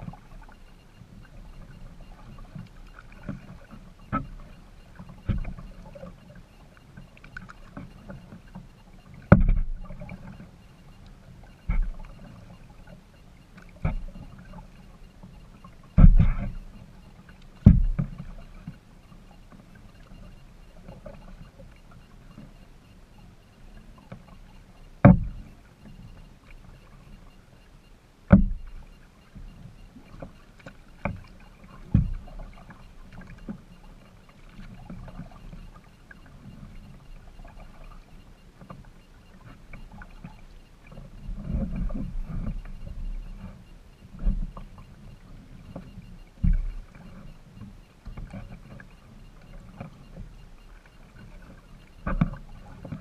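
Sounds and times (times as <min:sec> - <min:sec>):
kayak paddling: 0:00.0 - 0:53.0.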